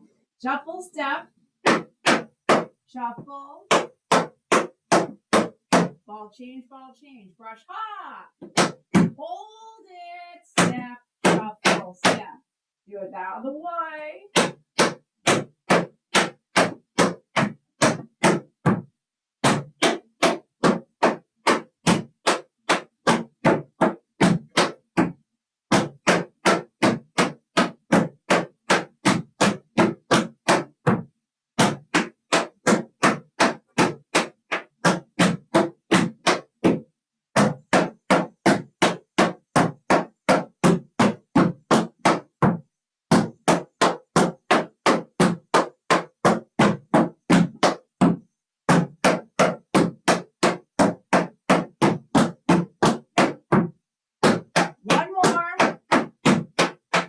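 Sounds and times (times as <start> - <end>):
tap shoes on wooden board: 1.6 - 6.0, 8.4 - 9.2, 10.6 - 12.3, 14.3 - 57.0.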